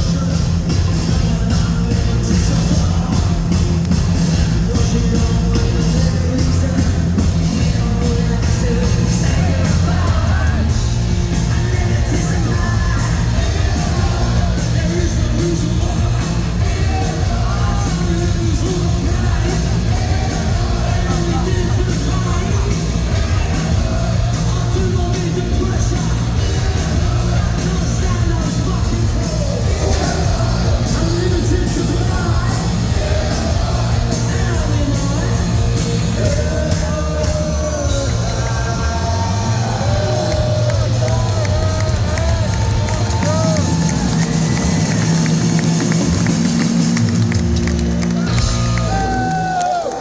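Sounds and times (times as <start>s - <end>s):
shouted sung lead vocal: 0.0s - 45.8s, 48.2s - 50.0s
bass guitar: 0.0s - 50.0s
drums: 0.0s - 50.0s
electric guitars: 0.0s - 50.0s.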